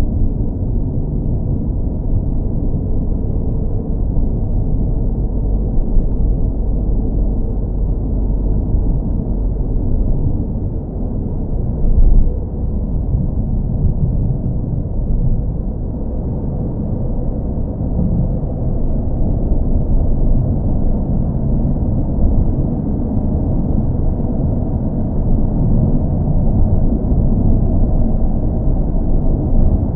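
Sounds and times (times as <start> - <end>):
muffled car engine rumble: 0.0 - 29.9.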